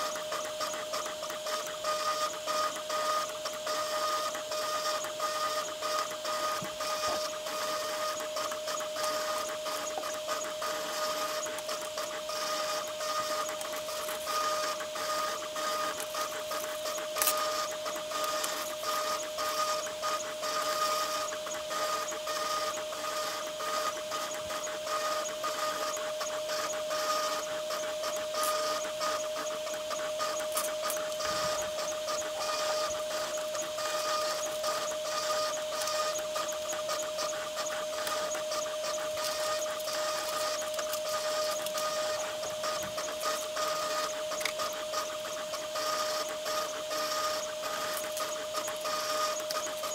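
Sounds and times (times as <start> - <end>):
cutter ticking and scratching: 0.0 - 49.9
router spindle whine: 0.0 - 49.9.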